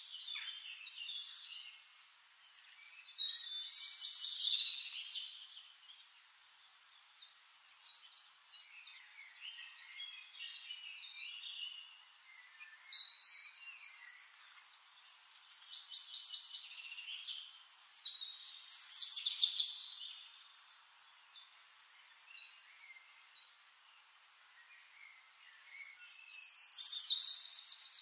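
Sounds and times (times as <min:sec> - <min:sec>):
birds chirping and singing: 0:00.0 - 0:23.6, 0:24.6 - 0:28.0.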